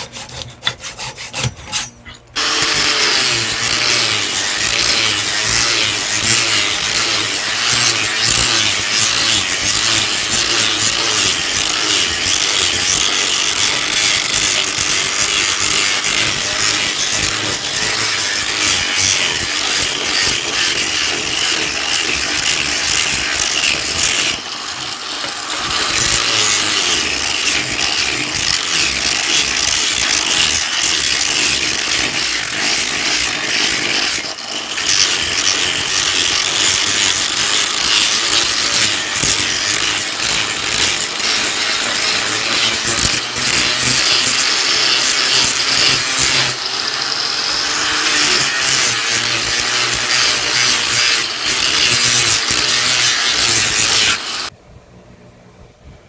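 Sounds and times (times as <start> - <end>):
power tool abrasive hiss: 2.4 - 54.5.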